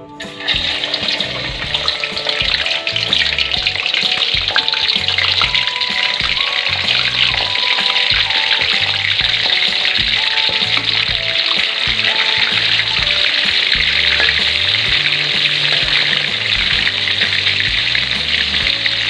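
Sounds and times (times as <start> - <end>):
background music with bass: 0.0 - 19.0
chicken sizzling in hot oil: 0.2 - 19.0.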